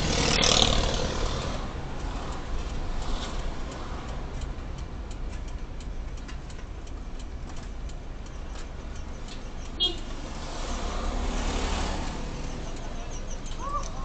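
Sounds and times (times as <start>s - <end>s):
engine and road rumble: 0.0s - 14.0s
turn signal ticking: 0.0s - 14.0s.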